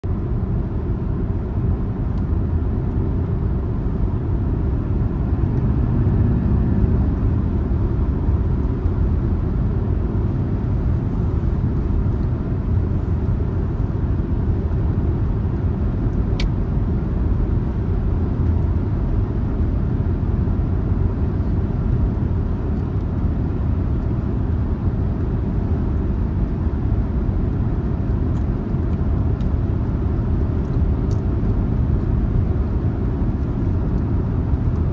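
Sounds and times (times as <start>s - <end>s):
road and tyre rumble: 0.0s - 34.9s.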